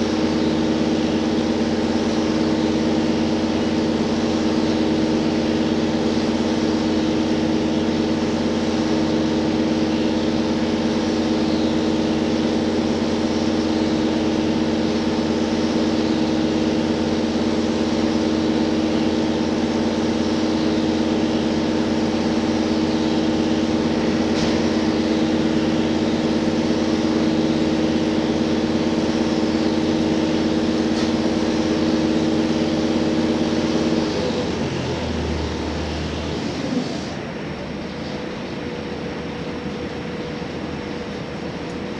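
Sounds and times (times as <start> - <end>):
railcar diesel engine drone: 0.0 - 41.9.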